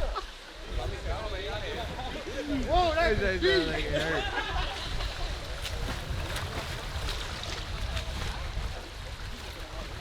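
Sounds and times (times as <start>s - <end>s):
water rushing: 0.0s - 10.0s
wind rumble on microphone: 0.0s - 10.0s.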